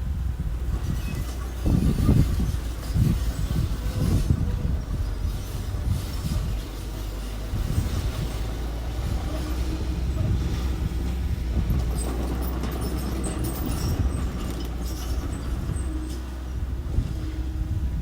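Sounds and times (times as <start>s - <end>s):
small machine engine rumbling: 0.0s - 18.0s.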